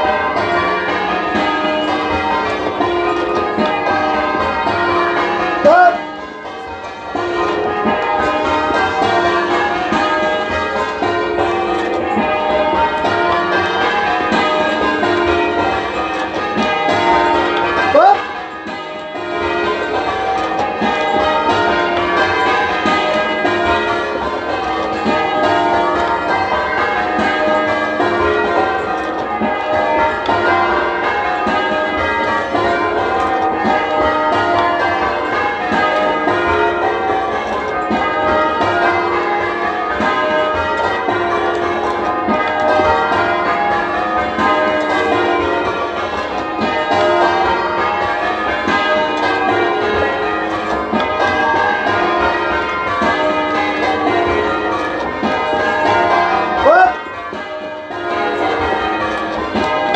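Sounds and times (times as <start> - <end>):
church bells change ringing: 0.0 - 59.9.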